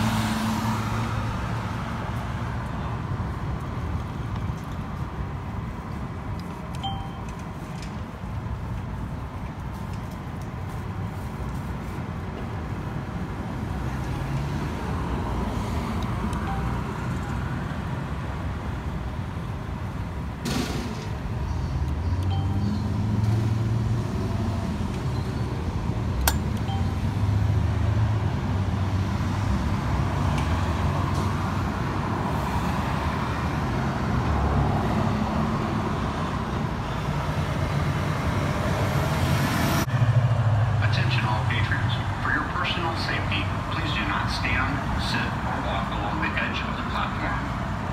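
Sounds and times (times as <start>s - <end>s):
traffic rumble: 0.0s - 47.9s.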